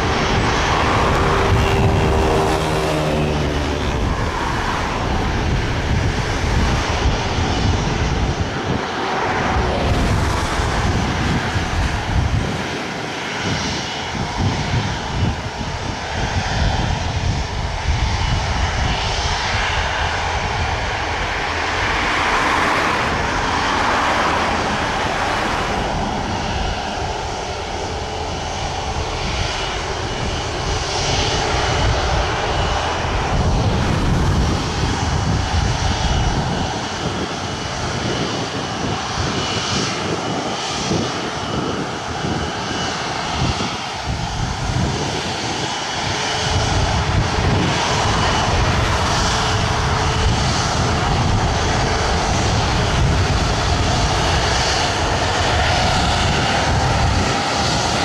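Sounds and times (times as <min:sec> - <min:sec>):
faint high engine whine: 0:00.0 - 0:58.0
jet engines roaring: 0:00.0 - 0:58.0.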